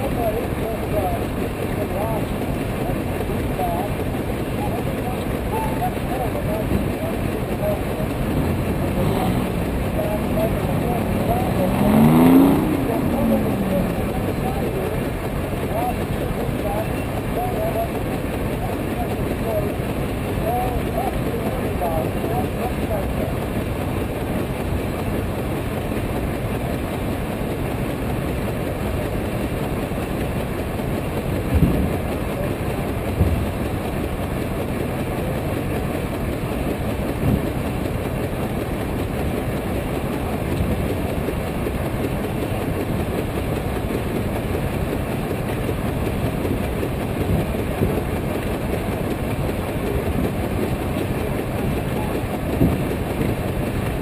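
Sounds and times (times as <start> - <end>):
steam engine exhaust chuffing: 0.0 - 54.0.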